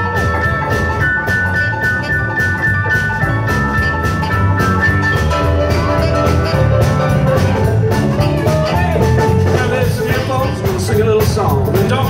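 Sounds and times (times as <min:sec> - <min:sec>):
bass guitar: 0:00.0 - 0:12.0
drum kit steady beat: 0:00.0 - 0:12.0
electric guitar: 0:00.0 - 0:12.0
keyboard chords: 0:00.0 - 0:12.0.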